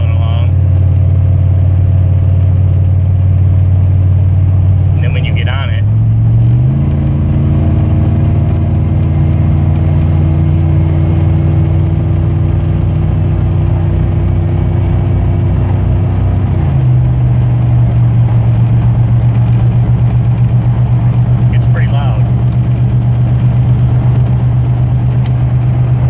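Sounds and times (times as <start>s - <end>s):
pickup truck engine driving: 0.0s - 26.0s.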